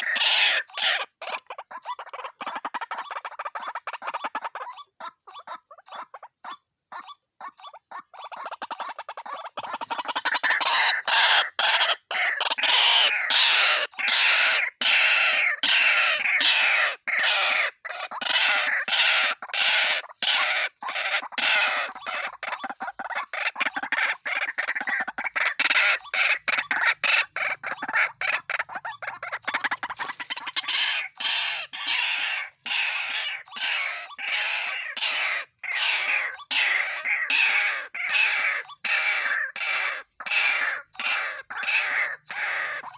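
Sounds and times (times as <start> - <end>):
waterhens calling: 0.0 - 7.0, 8.0 - 42.9.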